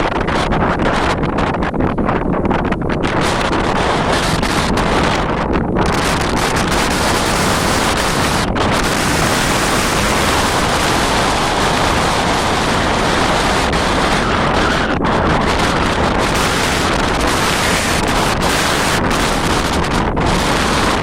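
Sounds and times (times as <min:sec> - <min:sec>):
strong wind blowing: 0:00.0 - 0:21.0
wind buffeting microphone: 0:00.0 - 0:21.0.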